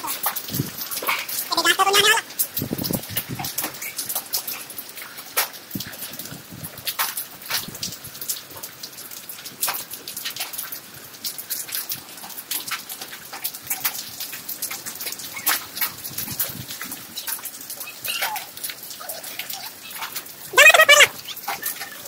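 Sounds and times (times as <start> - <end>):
hail and rain on concrete: 0.0 - 22.0.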